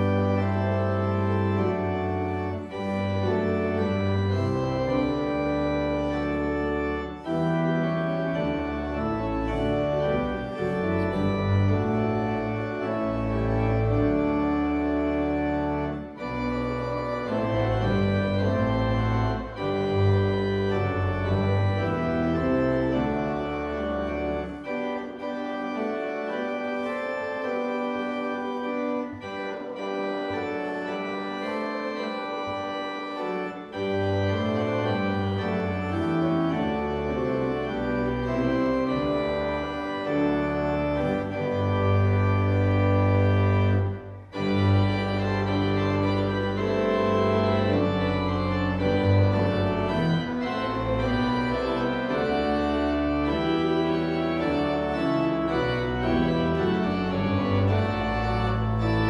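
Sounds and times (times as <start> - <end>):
church organ chords: 0.0 - 59.0
deep organ pedal bass: 0.0 - 59.0.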